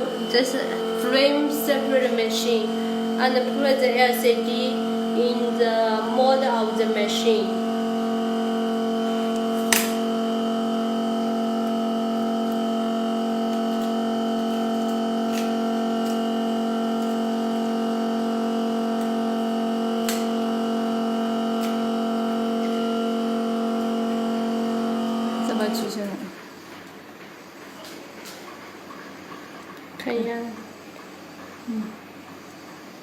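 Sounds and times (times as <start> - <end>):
machine electric hum: 0.0 - 33.0.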